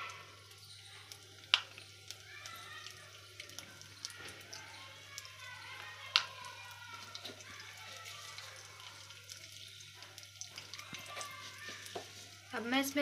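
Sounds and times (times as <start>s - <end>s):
seeds sizzling in hot oil: 0.0s - 13.0s
small pops and crackles: 1.1s - 12.5s.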